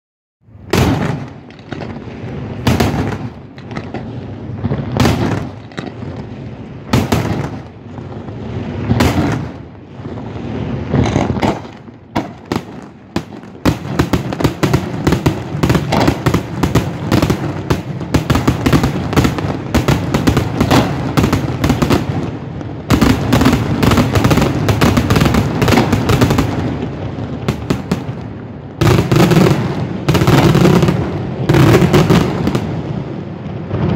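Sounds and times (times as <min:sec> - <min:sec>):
firework crackles: 0:00.5 - 0:33.9.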